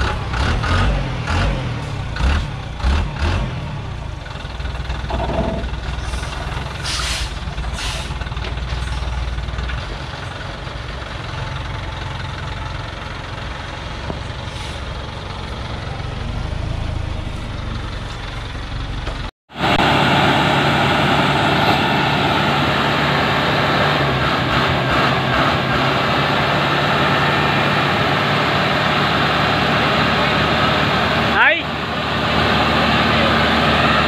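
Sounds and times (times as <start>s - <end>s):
truck diesel engine drone: 0.0s - 34.0s.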